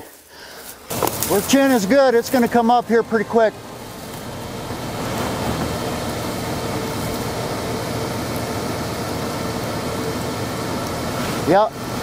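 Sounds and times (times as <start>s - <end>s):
truck engine running: 0.7s - 12.0s.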